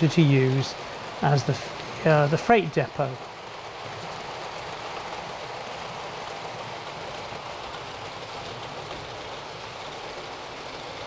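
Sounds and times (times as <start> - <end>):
model trains running on track: 0.0 - 11.0.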